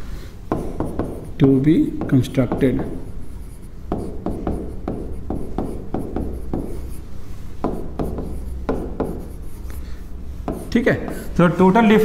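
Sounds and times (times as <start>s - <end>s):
pen writing on board: 0.5s - 11.4s.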